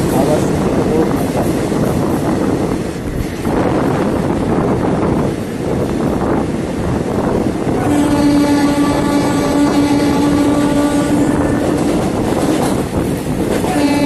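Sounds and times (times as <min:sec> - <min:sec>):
rushing wind: 0:00.0 - 0:14.0
train wheels rumbling on rail: 0:00.0 - 0:14.0.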